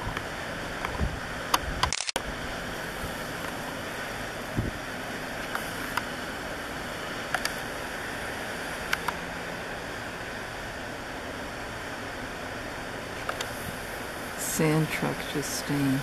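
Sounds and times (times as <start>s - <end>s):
distant roar of heavy equipment: 0.0s - 16.0s.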